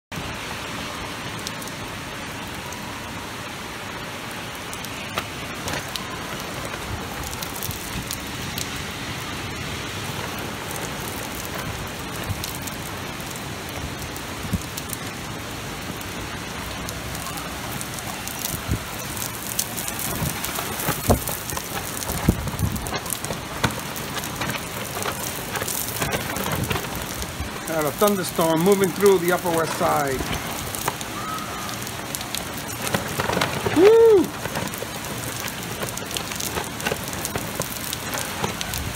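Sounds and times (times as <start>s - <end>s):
heavy rain hissing: 0.1s - 38.9s
raindrops tapping on surface: 4.2s - 38.9s.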